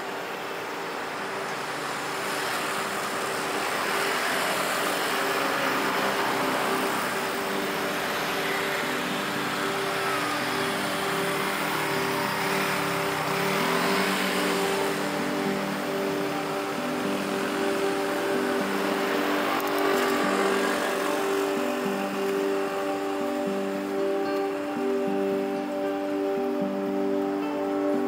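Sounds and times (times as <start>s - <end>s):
car and scooter engines: 0.0s - 28.0s
road noise: 0.0s - 28.0s.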